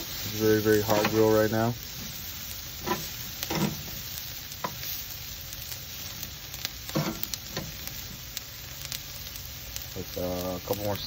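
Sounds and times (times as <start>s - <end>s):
vegetables sizzling on a grill: 0.0s - 11.0s.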